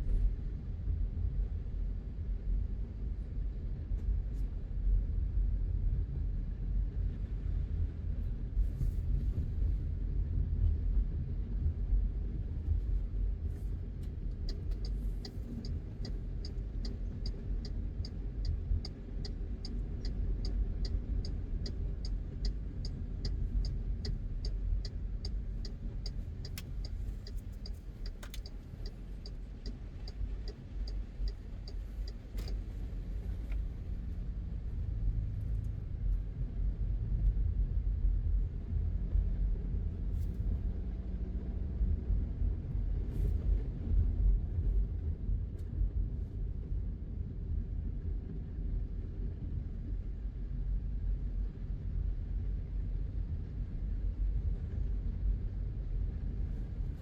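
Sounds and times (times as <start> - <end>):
car driving on road: 11.3 - 57.0.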